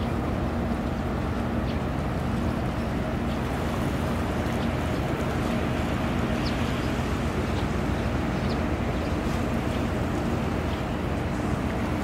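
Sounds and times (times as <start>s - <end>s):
low rumble of ship machinery: 0.0s - 12.0s.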